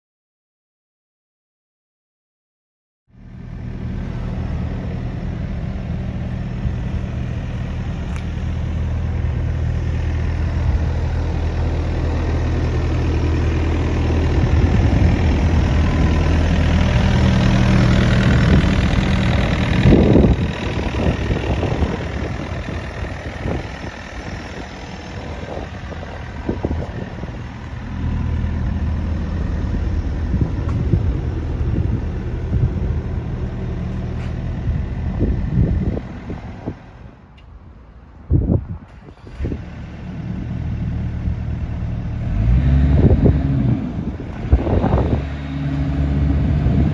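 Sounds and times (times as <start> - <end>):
uneven low rumbles: 3.1 - 46.9
excavator diesel engine idling: 3.2 - 46.9.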